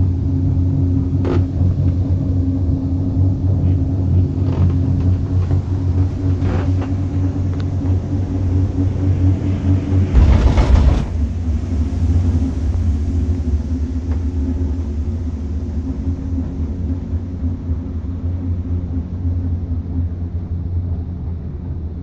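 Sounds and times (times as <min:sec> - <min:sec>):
cable car rumble and hum: 0:00.0 - 0:22.0.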